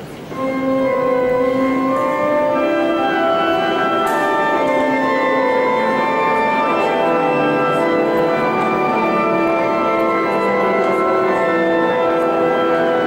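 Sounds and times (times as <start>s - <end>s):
church organ sustained chords: 0.2s - 13.0s.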